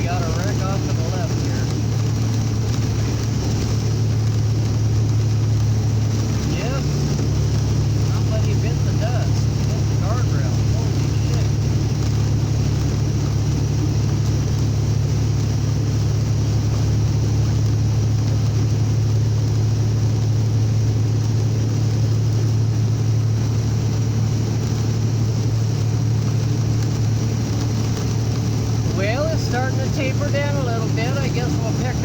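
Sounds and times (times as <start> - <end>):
engine and drivetrain hum: 0.0 - 32.0
road and tyre noise: 0.0 - 32.0.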